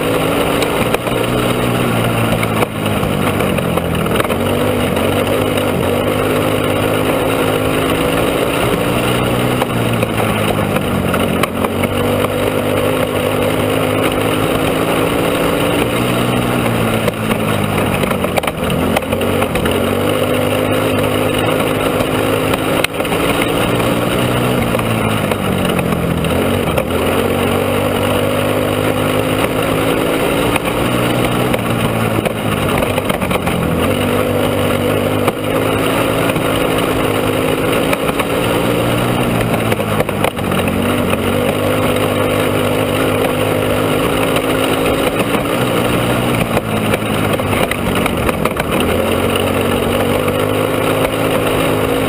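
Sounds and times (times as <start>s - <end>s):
go-kart engine running hard: 0.0s - 52.0s.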